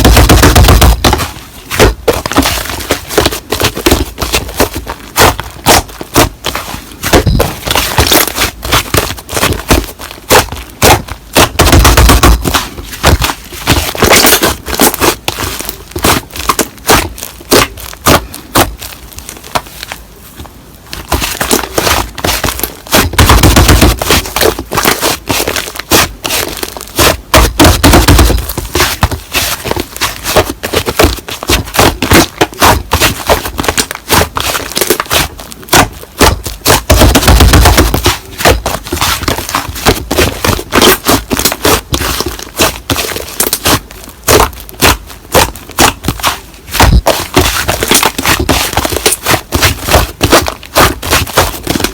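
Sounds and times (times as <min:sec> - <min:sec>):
slime clicking and crackling: 0:00.0 - 0:20.0, 0:20.9 - 0:51.9.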